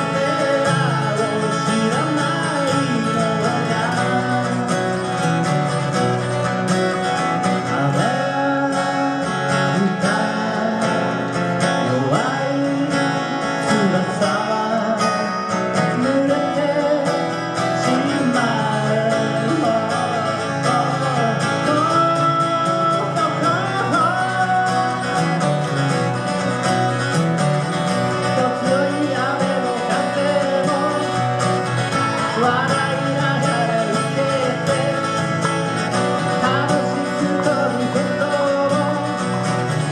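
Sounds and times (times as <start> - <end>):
person singing: 0.0 - 5.9, 7.4 - 25.9, 28.0 - 39.9
acoustic guitars playing: 0.0 - 39.9.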